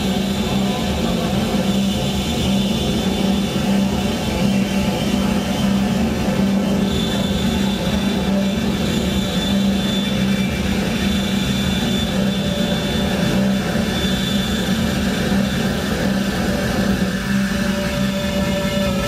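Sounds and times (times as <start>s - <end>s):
electronic noise drone: 0.0s - 19.0s
high steady synth tones: 0.0s - 19.0s.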